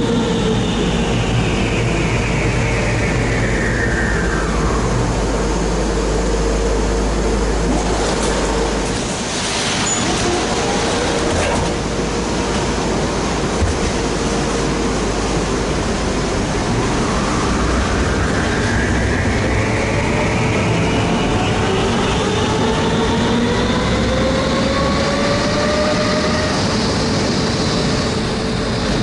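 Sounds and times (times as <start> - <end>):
tram wheels on rails: 4.2 - 29.0.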